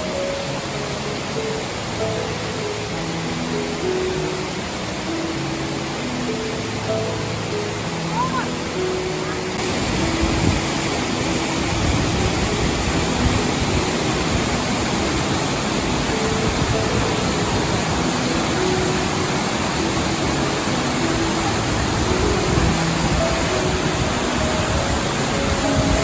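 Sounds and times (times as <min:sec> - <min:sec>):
faint soft music: 0:00.0 - 0:26.0
waterfall rushing: 0:00.0 - 0:26.0.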